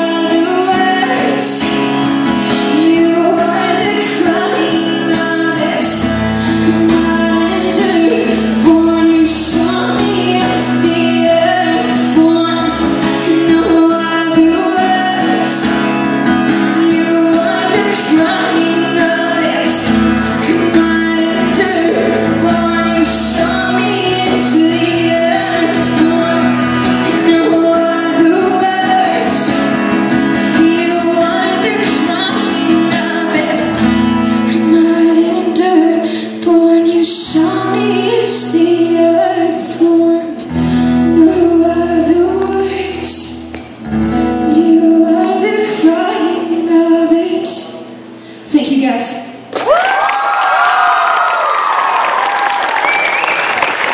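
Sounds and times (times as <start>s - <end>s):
woman singing live song: 0.0s - 49.5s.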